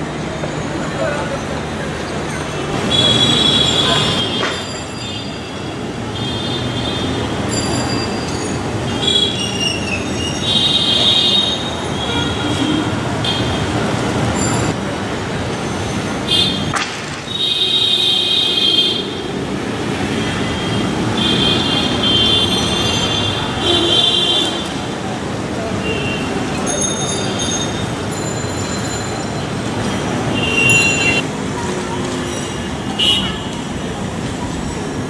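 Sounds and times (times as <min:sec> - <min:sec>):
traffic engines rumbling: 0:00.0 - 0:35.0.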